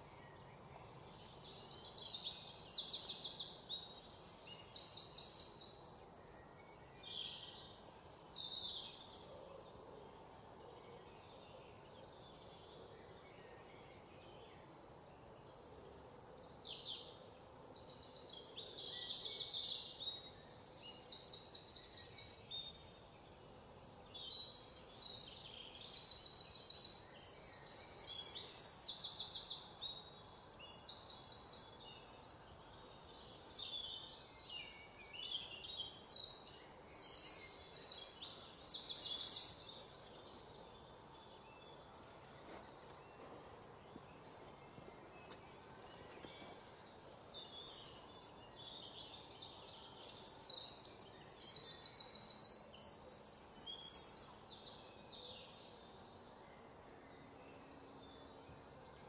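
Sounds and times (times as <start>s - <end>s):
soft bird chirps: 0.0s - 59.0s.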